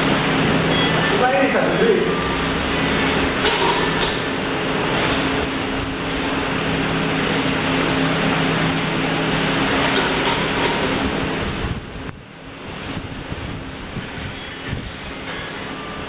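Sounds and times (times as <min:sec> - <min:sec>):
arc welding hiss and crackle: 0:00.0 - 0:16.0
welding machines humming: 0:00.0 - 0:16.0.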